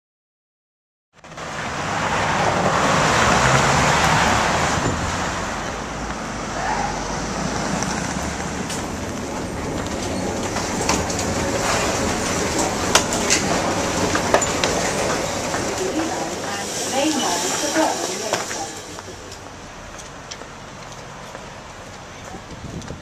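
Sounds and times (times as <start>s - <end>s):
cars passing on street: 1.2s - 23.0s.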